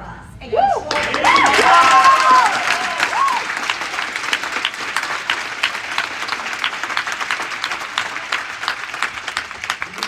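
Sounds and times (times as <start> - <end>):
crowd applauding: 0.8 - 10.0.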